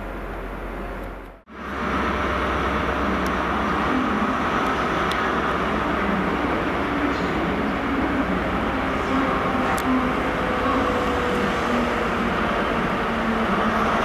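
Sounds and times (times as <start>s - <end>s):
diesel train engine drone: 0.0s - 14.0s.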